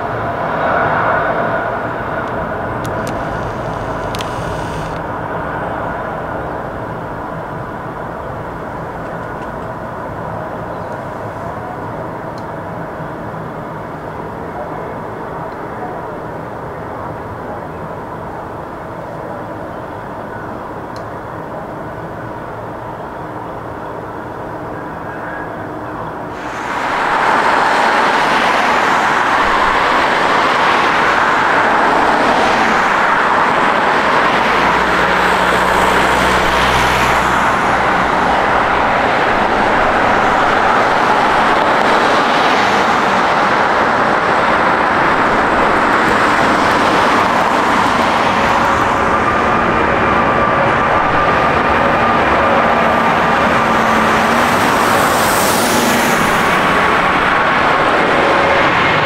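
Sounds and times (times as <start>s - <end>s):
jet engines rushing: 0.0s - 19.0s, 19.8s - 59.0s.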